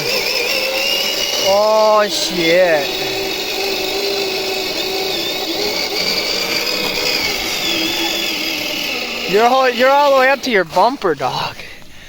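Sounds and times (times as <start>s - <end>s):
small electric motor whining: 0.0s - 11.9s.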